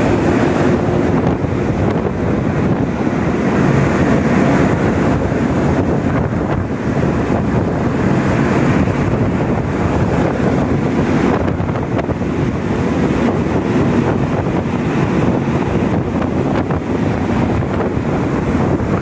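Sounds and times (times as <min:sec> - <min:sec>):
rush of ship's wake: 0:00.0 - 0:19.0
ship's low rumble: 0:00.0 - 0:19.0
wind buffeting microphone: 0:00.0 - 0:19.0.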